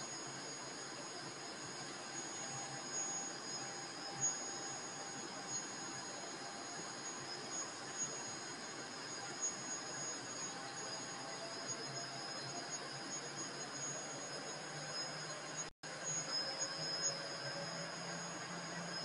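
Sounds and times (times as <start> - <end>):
factory machinery hum and hiss: 0.0 - 19.0
high steady machine whines: 0.0 - 19.0.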